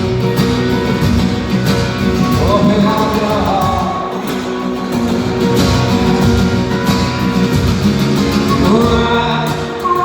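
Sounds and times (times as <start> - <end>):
acoustic guitars strumming: 0.0 - 10.0.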